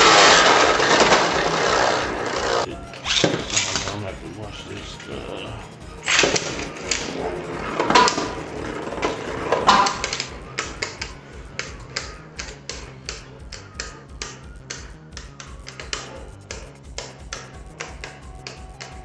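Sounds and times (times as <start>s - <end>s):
spinning tops clashing: 0.0s - 19.0s
tops clacking: 0.0s - 19.0s.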